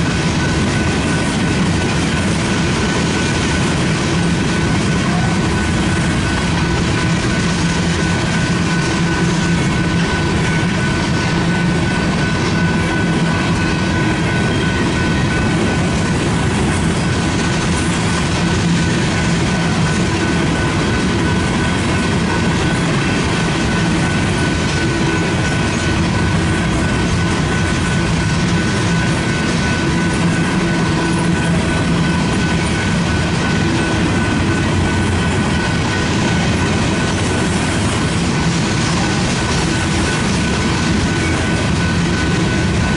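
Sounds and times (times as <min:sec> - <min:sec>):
clickety-clack of rails: 0:00.0 - 0:42.9
train wheels on rails: 0:00.0 - 0:42.9.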